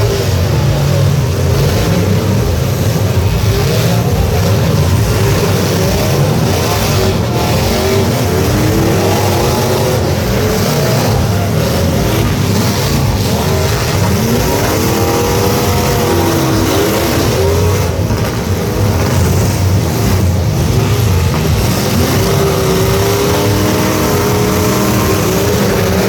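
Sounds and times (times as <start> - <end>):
truck engines revving: 0.0 - 26.0.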